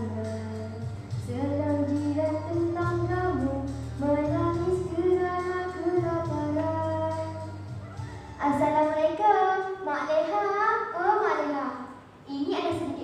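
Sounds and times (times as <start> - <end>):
girl singing: 0.0 - 13.0
musical backing track: 0.0 - 13.0.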